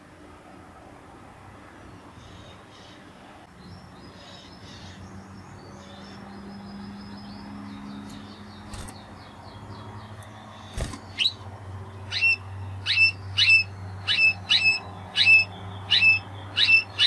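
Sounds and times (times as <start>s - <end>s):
canary singing trills: 2.2s - 17.0s.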